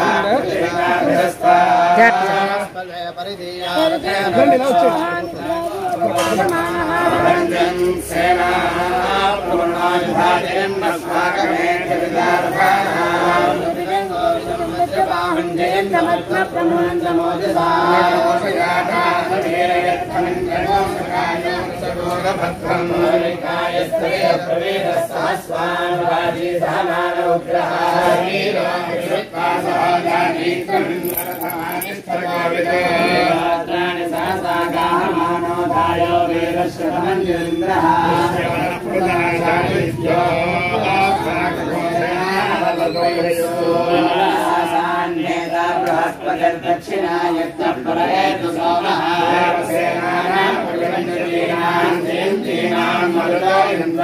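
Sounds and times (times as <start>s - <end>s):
men chanting together: 0.0s - 54.0s.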